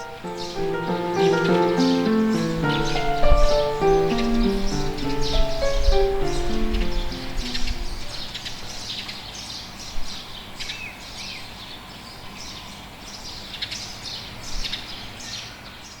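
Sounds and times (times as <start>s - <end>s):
low background noise: 0.0s - 16.0s
small birds chirping: 0.0s - 16.0s.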